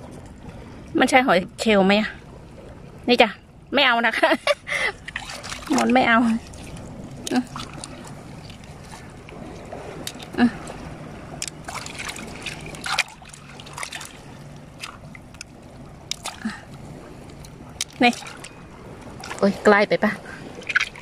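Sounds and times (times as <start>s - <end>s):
splashing in shallow water: 4.0s - 21.0s.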